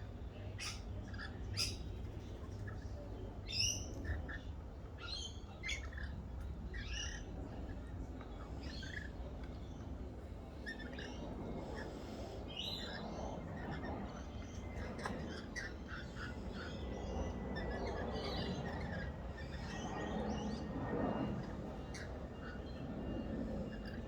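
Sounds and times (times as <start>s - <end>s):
low background rumble: 0.0s - 24.0s
birds chirping: 0.4s - 24.0s.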